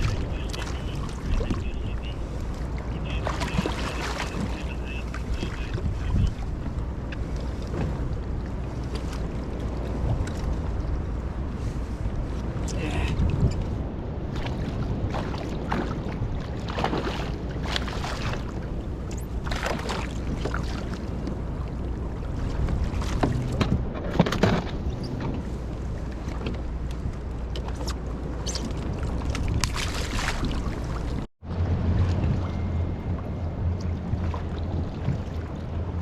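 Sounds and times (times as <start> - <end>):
water splashing around boat: 0.0 - 36.0
wind rumble on microphone: 0.0 - 36.0.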